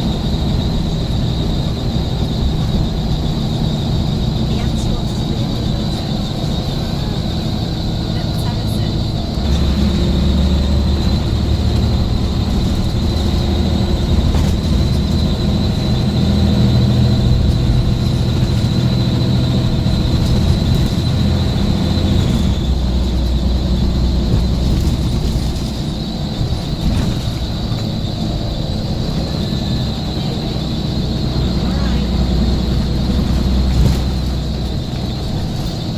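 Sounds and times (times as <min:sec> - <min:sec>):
bus engine droning: 0:00.0 - 0:35.9.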